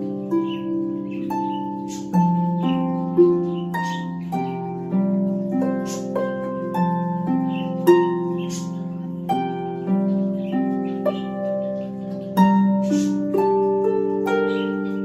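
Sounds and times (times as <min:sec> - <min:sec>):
solo harp melody: 0:00.0 - 0:15.0.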